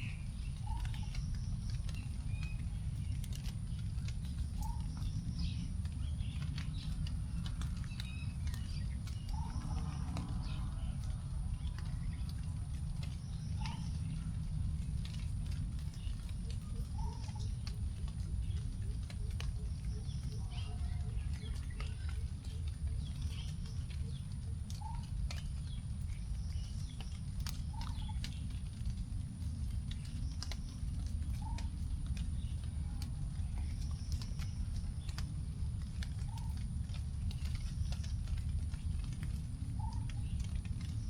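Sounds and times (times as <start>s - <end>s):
low rumble: 0.0s - 41.0s
raindrops dripping onto leaves: 0.0s - 41.0s.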